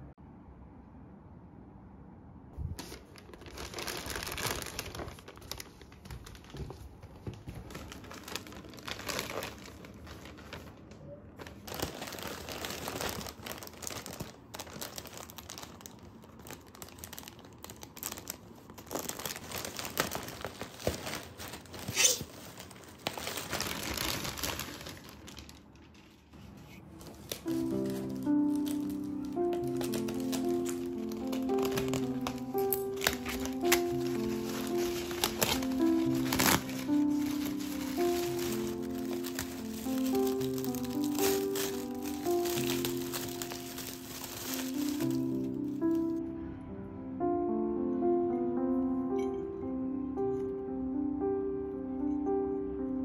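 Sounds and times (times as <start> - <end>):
plastic packaging crinkling: 2.6 - 46.2
packaging tearing: 2.8 - 26.3, 27.0 - 46.1.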